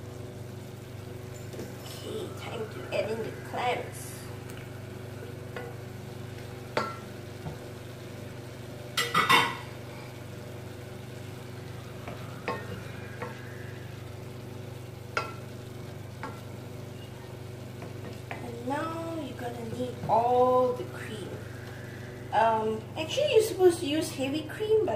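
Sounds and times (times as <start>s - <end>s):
food sizzling faintly: 0.0s - 24.9s
steady low hum: 0.0s - 24.9s.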